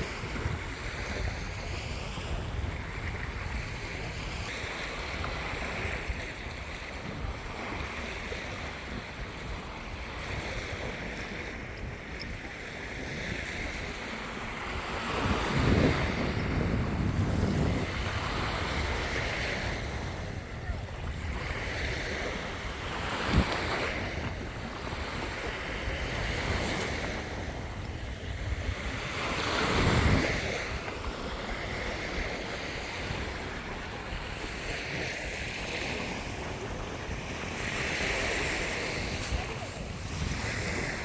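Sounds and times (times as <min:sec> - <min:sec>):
surf washing onto shore: 0:00.0 - 0:41.0
wind buffeting microphone: 0:00.0 - 0:41.0.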